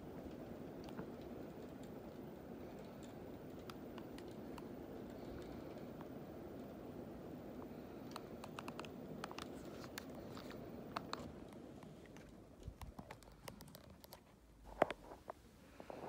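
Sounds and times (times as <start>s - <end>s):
ceiling fan air whoosh: 0.0s - 16.0s
light clicks and ticks: 0.1s - 15.4s.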